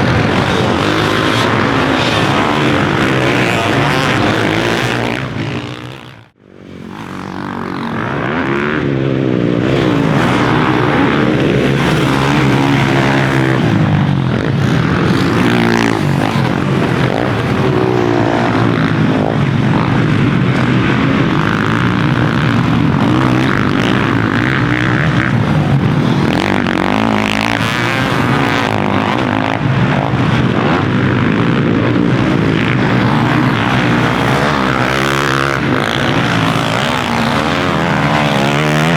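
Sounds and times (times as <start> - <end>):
motocross bike engine racing: 0.0 - 38.9.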